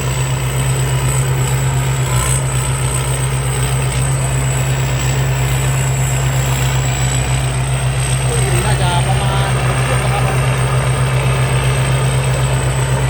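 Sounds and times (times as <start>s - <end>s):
diesel engine droning: 0.0s - 13.0s
high machine whine: 0.0s - 13.0s.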